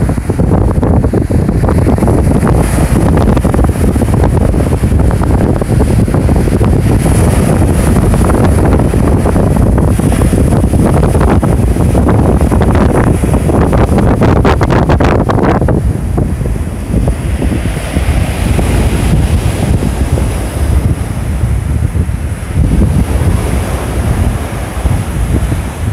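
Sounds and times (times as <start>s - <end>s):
heavy surf breaking: 0.0s - 25.9s
wind buffeting microphone: 0.0s - 25.9s.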